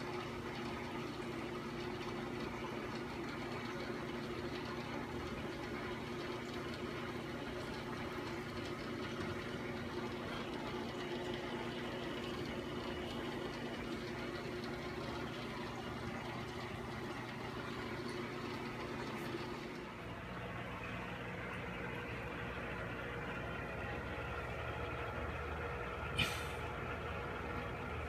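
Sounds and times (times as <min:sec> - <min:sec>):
aquarium pump motor hum: 0:00.0 - 0:28.0
water bubbling and trickling: 0:00.0 - 0:28.0.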